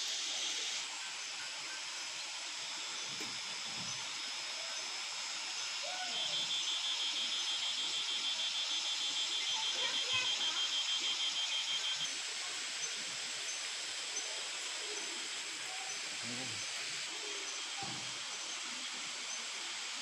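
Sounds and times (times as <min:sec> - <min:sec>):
high hiss of insects: 0:00.0 - 0:05.0, 0:05.6 - 0:20.0
rapidly pulsing insect trill: 0:00.0 - 0:20.0.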